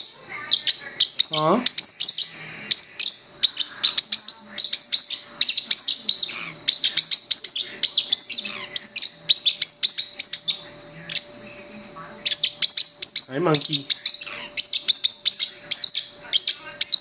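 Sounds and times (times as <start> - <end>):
parrotlet high-pitched chirps: 0.0 - 11.4, 12.2 - 17.0.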